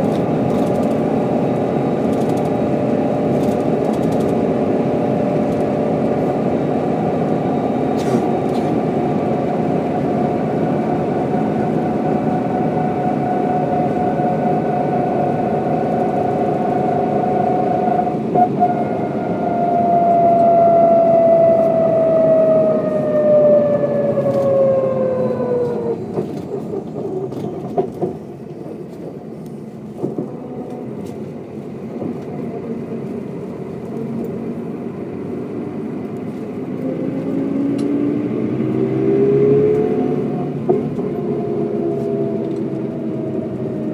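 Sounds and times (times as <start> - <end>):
bus engine whine: 0.0 - 43.9.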